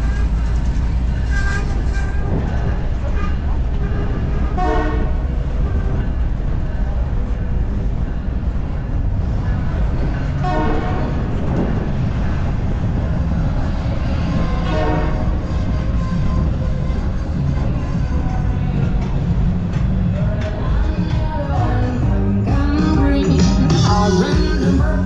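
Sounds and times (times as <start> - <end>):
train rolling with low rumble: 0.0 - 25.0.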